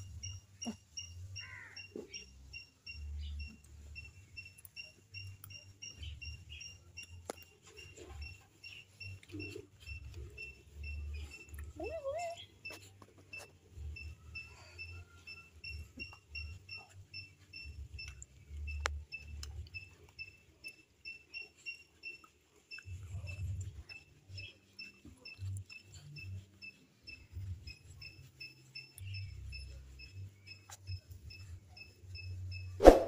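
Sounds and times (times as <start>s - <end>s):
faint high chirps: 0.0s - 32.9s.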